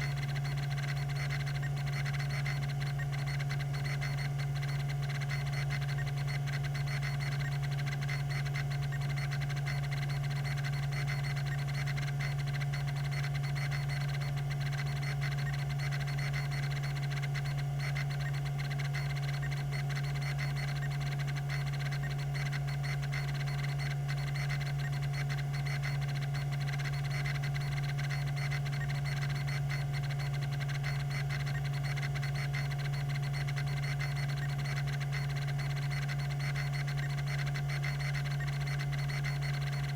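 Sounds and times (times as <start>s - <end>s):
hard drive motor hum: 0.0s - 39.9s.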